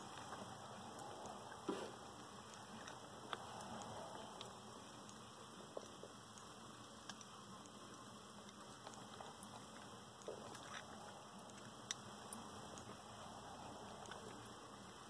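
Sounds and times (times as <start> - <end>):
crabs clicking on a shell dish: 0.0 - 15.0
quiet background hiss: 0.0 - 15.0.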